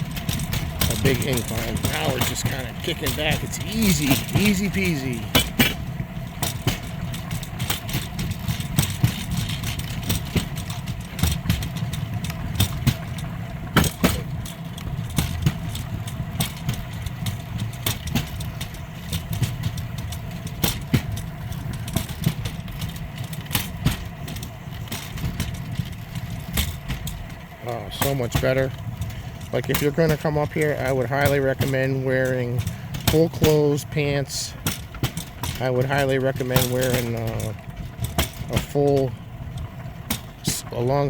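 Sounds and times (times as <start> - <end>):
rail joint clicks and clacks: 0.0 - 41.0
steel wheels rolling on rails: 0.0 - 41.0.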